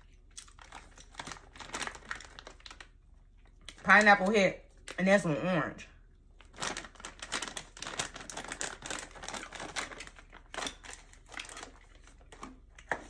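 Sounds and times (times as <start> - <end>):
plastic snack pouch crinkling: 0.1 - 5.1, 6.4 - 13.0.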